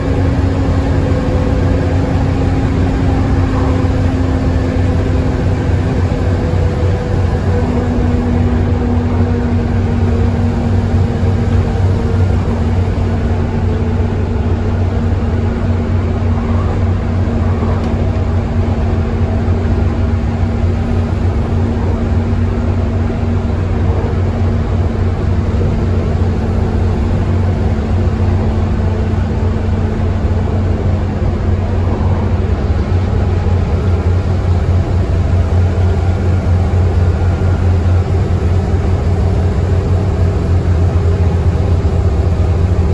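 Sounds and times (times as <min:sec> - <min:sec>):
bus diesel engine droning: 0:00.0 - 0:42.9
tyre and road noise: 0:00.0 - 0:42.9.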